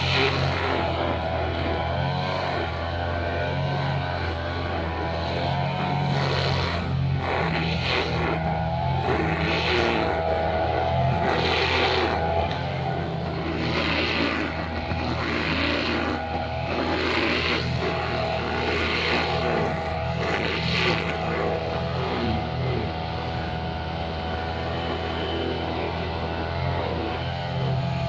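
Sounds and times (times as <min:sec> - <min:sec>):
brushcutter engine running: 0:00.0 - 0:28.0.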